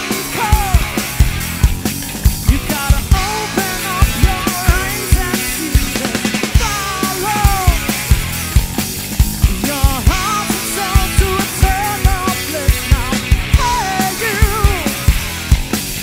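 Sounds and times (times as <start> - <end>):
drum kit beat: 0.0 - 16.0
electric guitar lead: 0.0 - 16.0.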